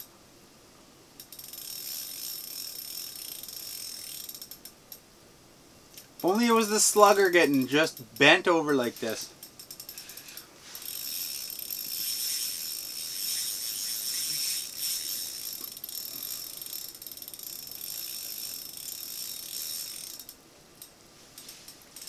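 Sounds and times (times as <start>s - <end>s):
fishing reel ratcheting whir: 1.2s - 4.8s, 6.0s - 22.0s.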